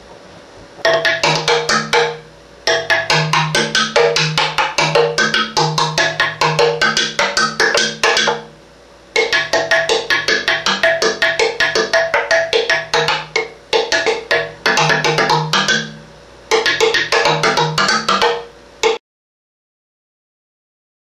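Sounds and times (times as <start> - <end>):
wooden tongue drum notes: 0.8 - 8.6, 9.2 - 19.0.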